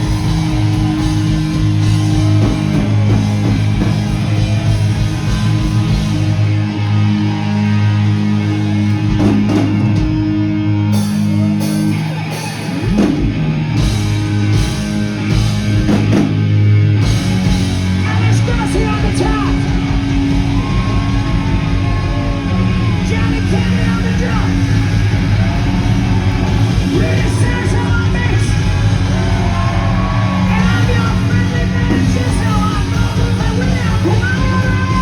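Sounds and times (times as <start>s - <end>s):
driving drum kit: 0.0s - 35.0s
electric guitar chords: 0.0s - 35.0s
live hard rock band: 0.0s - 35.0s.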